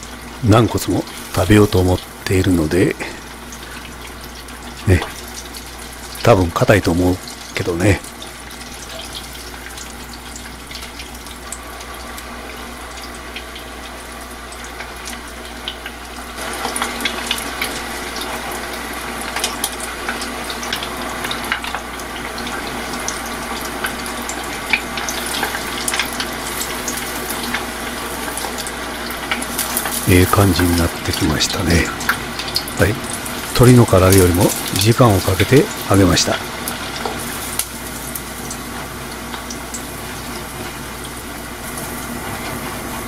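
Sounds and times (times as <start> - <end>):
meat deep-frying in oil: 0.0 - 43.0.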